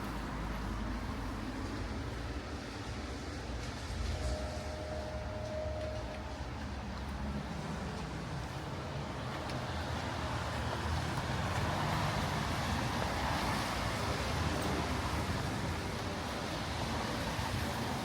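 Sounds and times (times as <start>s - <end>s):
car tyres hissing on wet street: 0.0s - 18.0s
low traffic rumble: 0.0s - 18.0s.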